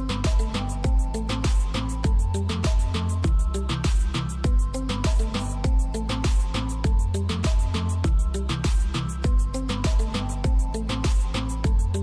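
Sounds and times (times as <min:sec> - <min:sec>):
deep bass line: 0:00.0 - 0:12.0
steady drum beat: 0:00.0 - 0:12.0.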